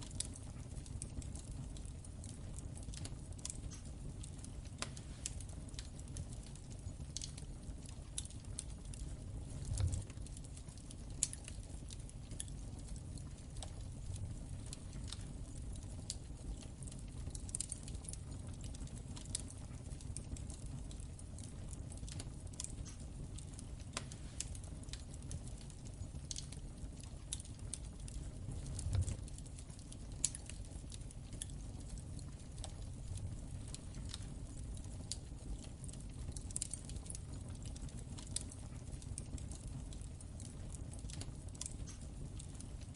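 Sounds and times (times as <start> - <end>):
low rumble of flames: 0.0 - 42.9
wood fire crackling: 0.0 - 42.9.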